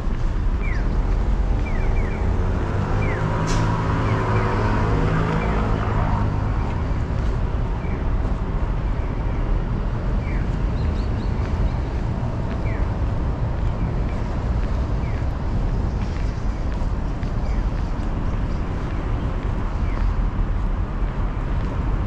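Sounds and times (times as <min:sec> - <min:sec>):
street traffic noise: 0:00.0 - 0:22.0
vehicle engine hum passing: 0:00.0 - 0:22.0.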